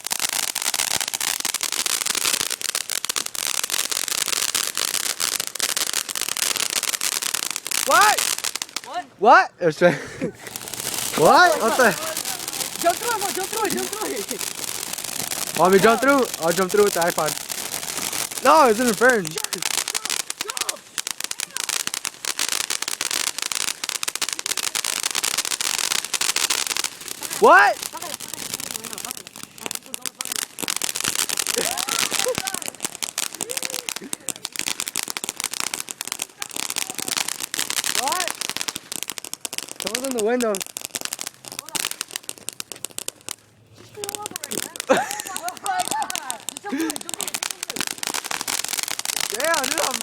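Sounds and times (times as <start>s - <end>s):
firework hissing and crackling: 0.0s - 9.1s, 9.8s - 50.0s.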